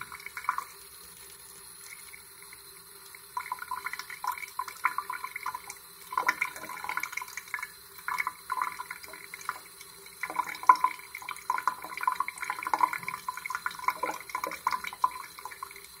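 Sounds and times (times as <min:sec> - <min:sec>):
tap water splashing into sink: 0:00.0 - 0:16.0.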